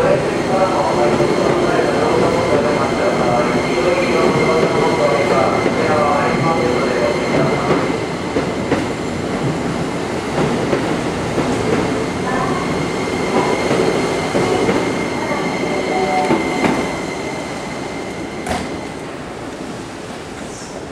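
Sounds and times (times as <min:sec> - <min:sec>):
train high whine: 0:00.0 - 0:20.8.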